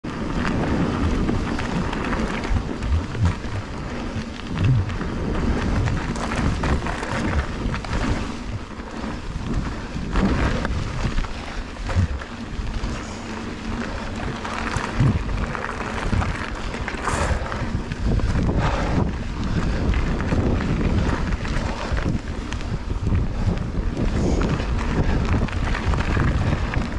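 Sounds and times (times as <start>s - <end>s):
low thumps over bumps: 0.0s - 26.9s
mountain bike tyre noise and rattle: 0.0s - 26.9s
wind buffeting microphone: 0.0s - 26.9s.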